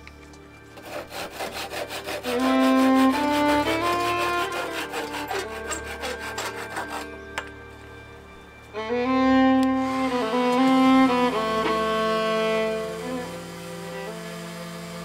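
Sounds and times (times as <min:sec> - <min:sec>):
string music: 0:00.0 - 0:15.0
saw cutting wooden board: 0:00.7 - 0:07.4, 0:09.6 - 0:15.0.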